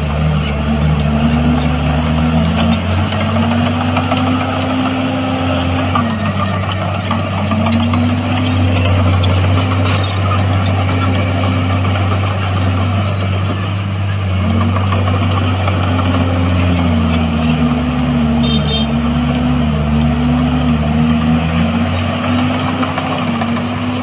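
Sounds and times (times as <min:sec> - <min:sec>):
heavy machine diesel engine: 0:00.0 - 0:24.0.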